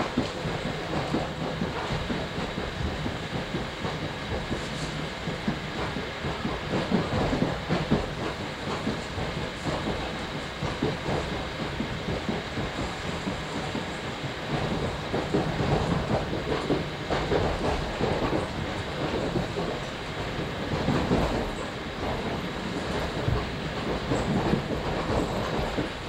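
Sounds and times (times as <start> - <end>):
rumble of train wheels on rail: 0.0 - 26.0.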